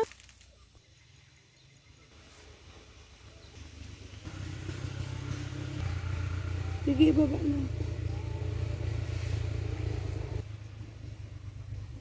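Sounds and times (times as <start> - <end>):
vehicle engine approaching: 2.1 - 12.0.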